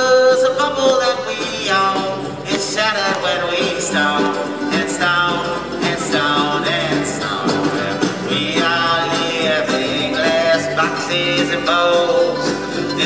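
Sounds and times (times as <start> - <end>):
banjo picking: 0.0 - 13.0
guitar picking: 0.0 - 13.0
electric bass: 0.4 - 13.0.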